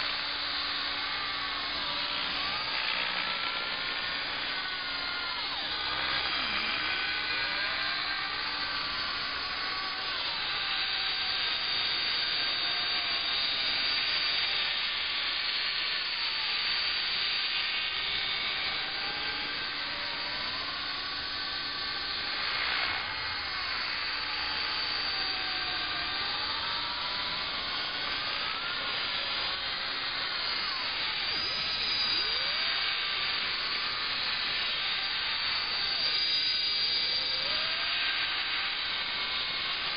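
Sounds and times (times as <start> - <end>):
model helicopter motor whine: 0.0 - 39.9.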